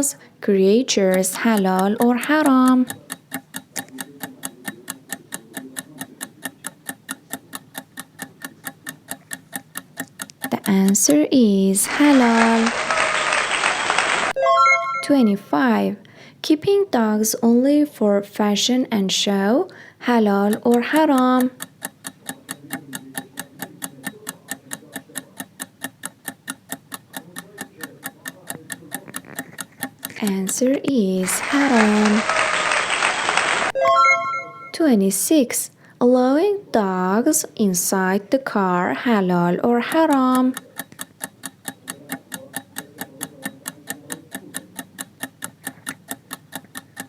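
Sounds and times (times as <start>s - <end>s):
clock ticking: 0.0s - 13.2s, 14.3s - 32.8s, 33.7s - 47.0s.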